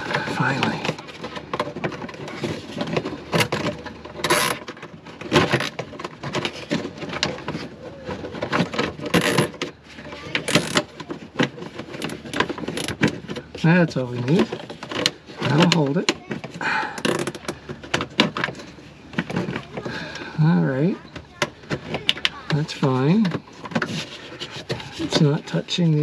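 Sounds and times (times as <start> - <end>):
plastic hose scraping and rustling: 0.0 - 26.0.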